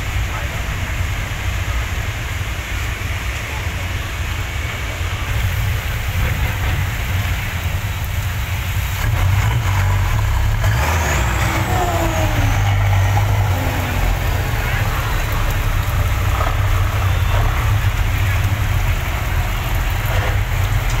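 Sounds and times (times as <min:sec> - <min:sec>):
diesel truck engine pulling away: 0:00.0 - 0:21.0.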